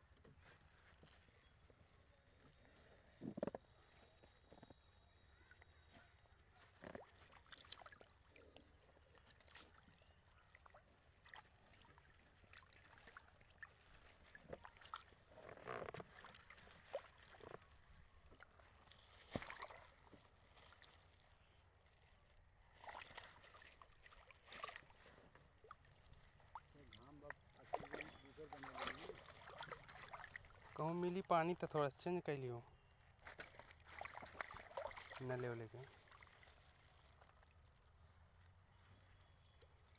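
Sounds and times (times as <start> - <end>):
water splashing: 3.3 - 21.5, 22.7 - 32.0, 33.2 - 38.1.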